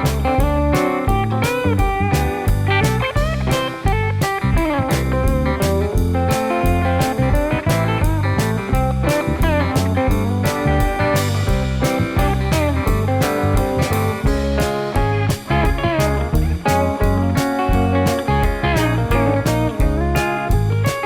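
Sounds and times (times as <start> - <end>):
bluesy slide guitar music: 0.0 - 21.0.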